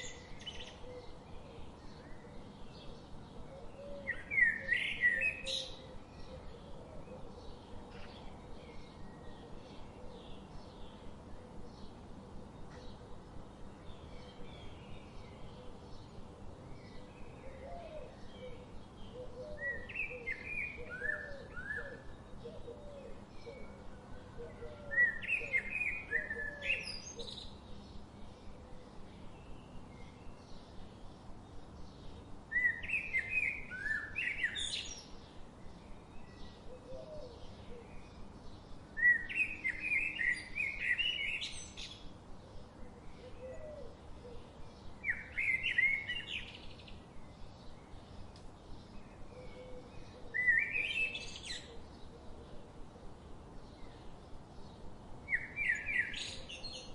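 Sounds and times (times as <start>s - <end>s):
bird song phrase: 0.0s - 56.9s.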